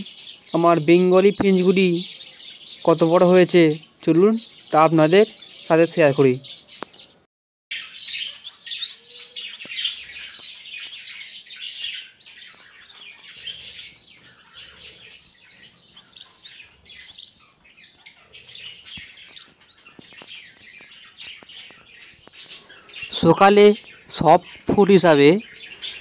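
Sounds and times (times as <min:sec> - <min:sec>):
finches chirping: 0:00.0 - 0:26.0.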